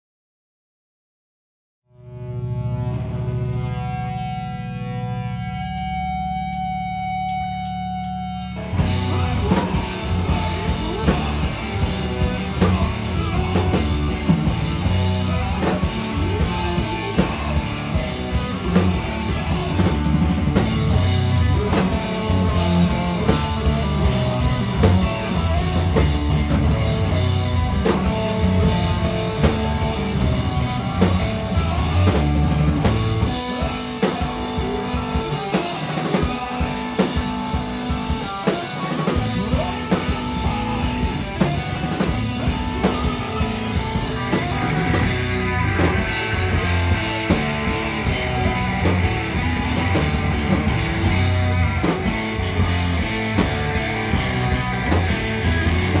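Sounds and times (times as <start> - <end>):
sustained guitar tones: 1.9 - 56.0
rock band playing: 2.0 - 56.0
drum kit beat: 5.4 - 56.0.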